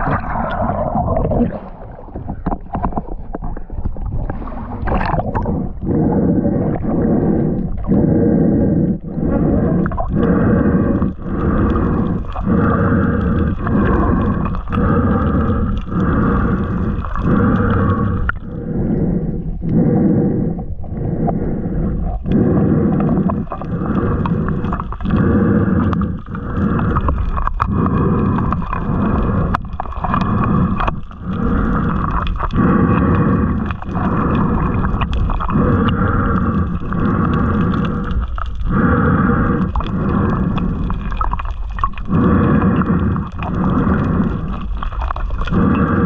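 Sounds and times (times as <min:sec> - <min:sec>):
water gurgling and rushing: 0:00.0 - 0:46.0.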